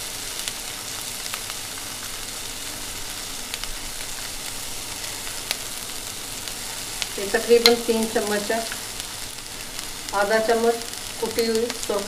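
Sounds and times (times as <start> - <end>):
chicken sizzling in pan: 0.0 - 12.0.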